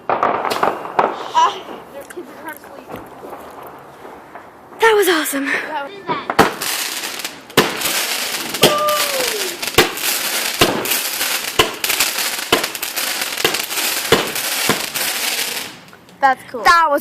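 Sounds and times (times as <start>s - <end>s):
firework sharp pops: 0.0s - 5.0s, 6.1s - 16.2s
firework crackling hiss: 0.0s - 16.3s.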